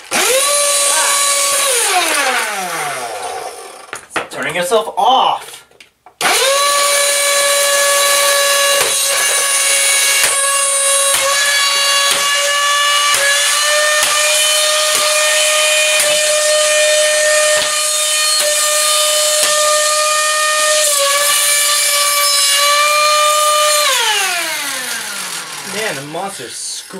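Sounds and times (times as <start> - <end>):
vacuum motor screaming: 0.0 - 4.0, 6.2 - 26.9.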